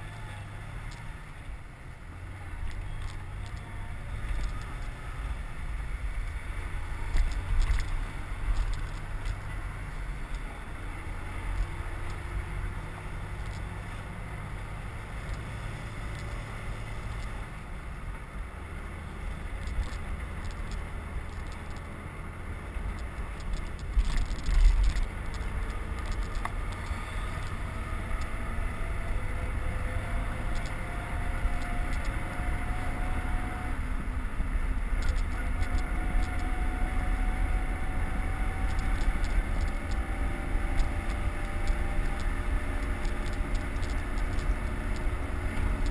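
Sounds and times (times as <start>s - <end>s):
low road rumble: 0.0s - 45.9s
wind rushing over microphone: 0.0s - 45.9s.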